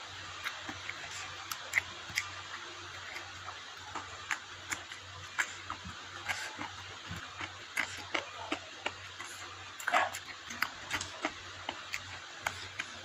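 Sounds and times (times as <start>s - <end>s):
fingers squishing food: 0.2s - 13.0s
wet chewing and lip smacks: 0.2s - 13.0s.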